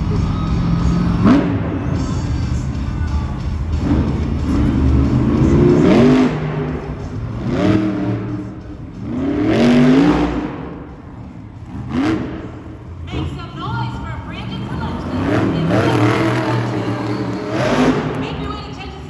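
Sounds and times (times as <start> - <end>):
truck engine revving with whine: 0.0 - 19.0.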